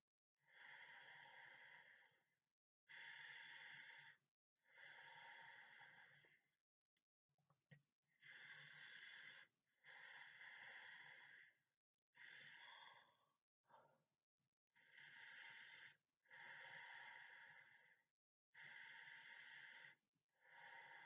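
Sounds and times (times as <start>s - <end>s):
person breathing heavily in sleep: 0.5s - 6.5s, 8.2s - 14.1s, 14.8s - 21.0s.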